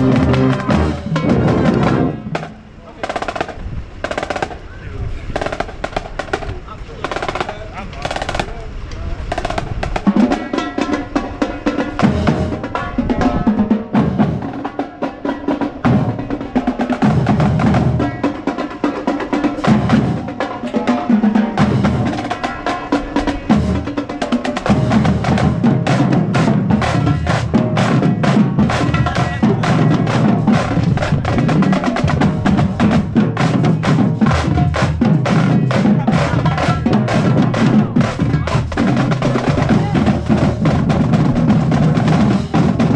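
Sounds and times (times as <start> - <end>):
bass drums: 0.0 - 4.6, 9.2 - 42.9
snare drum strokes: 0.0 - 4.6, 5.3 - 8.6, 9.3 - 42.9.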